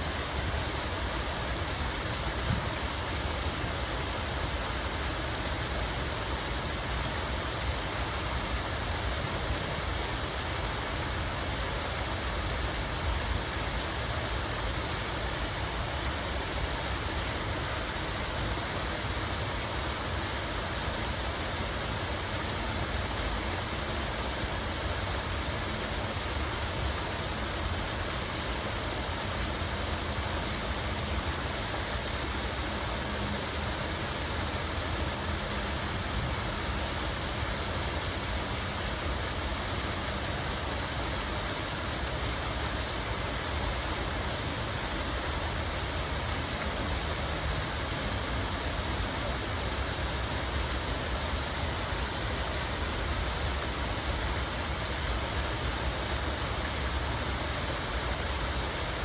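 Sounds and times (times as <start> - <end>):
falling water rushing: 0.0 - 59.0.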